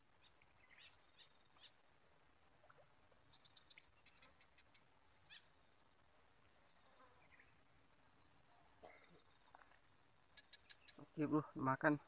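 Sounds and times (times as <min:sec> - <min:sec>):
insect chirps and clicks: 0:00.0 - 0:12.0.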